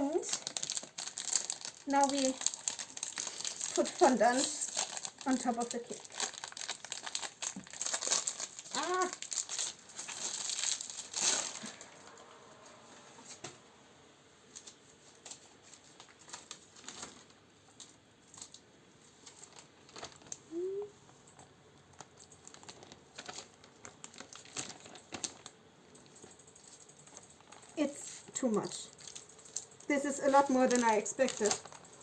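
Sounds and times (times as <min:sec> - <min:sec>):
fondant crinkling and rustling: 0:00.0 - 0:13.6, 0:14.4 - 0:32.0.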